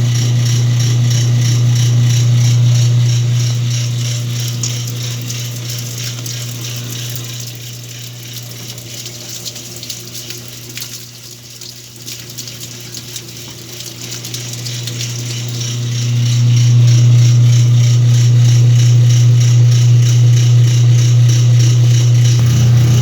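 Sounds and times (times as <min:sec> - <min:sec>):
washing machine hum: 0:00.0 - 0:23.0
water rushing in washing machine: 0:00.0 - 0:23.0.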